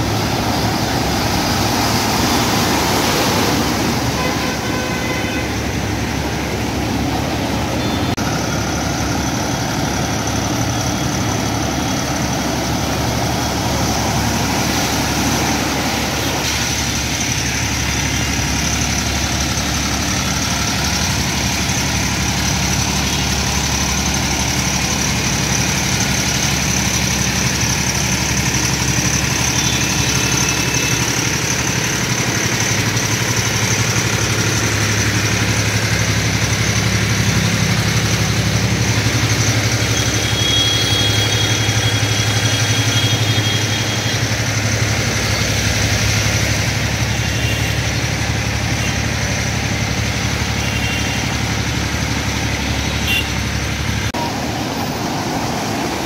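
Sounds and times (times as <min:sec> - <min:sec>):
water hissing: 0:00.0 - 0:08.0, 0:11.3 - 0:56.0
vehicle engine running: 0:00.0 - 0:56.0.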